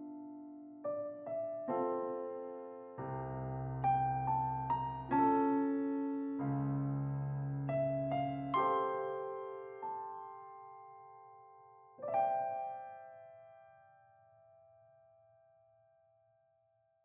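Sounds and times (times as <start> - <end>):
slow gentle piano piece: 0.0 - 16.6.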